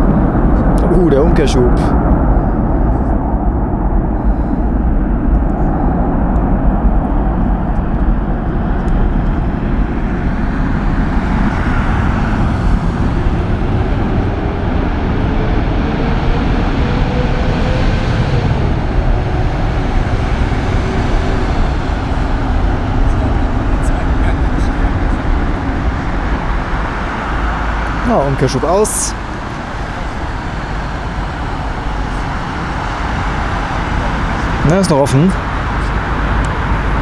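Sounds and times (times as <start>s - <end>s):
faint whine: 0.0s - 37.0s
jet engines roaring in reverse thrust: 0.0s - 37.0s.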